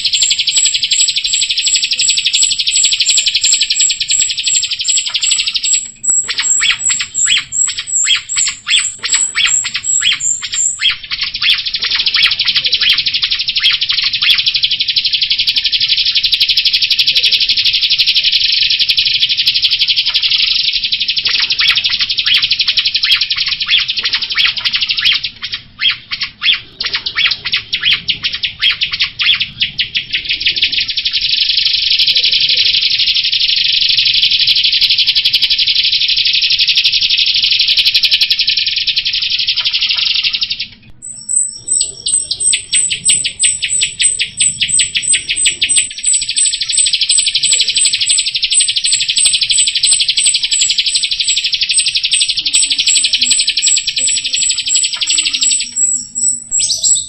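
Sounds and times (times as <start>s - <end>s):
songbird chattering song with trills: 0.0s - 57.0s.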